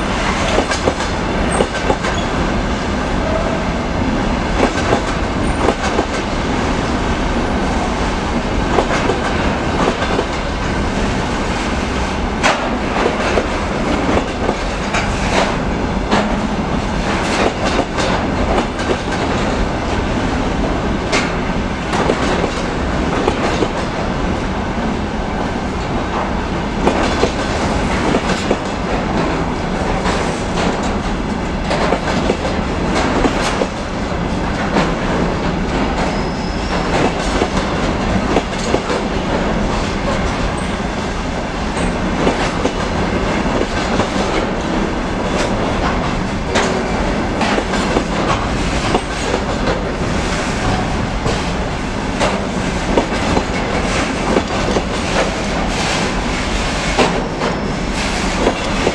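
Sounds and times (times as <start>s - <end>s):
steel wheels rumbling on rail: 0.0s - 58.9s.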